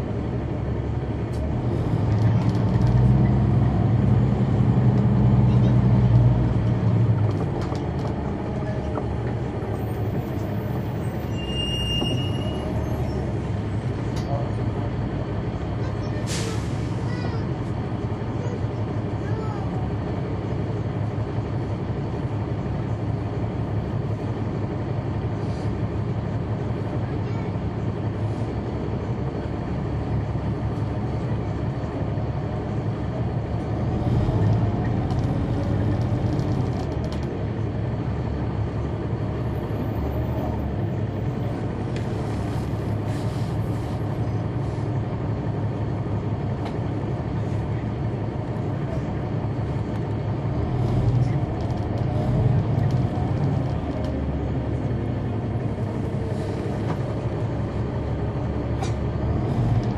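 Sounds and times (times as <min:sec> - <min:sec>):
bus diesel engine rumble: 0:00.0 - 0:59.9.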